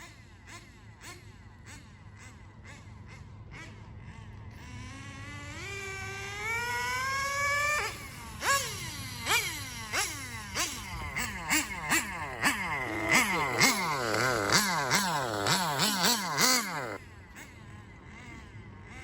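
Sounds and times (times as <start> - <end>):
nitro rc car engine revving: 0.0 - 19.0.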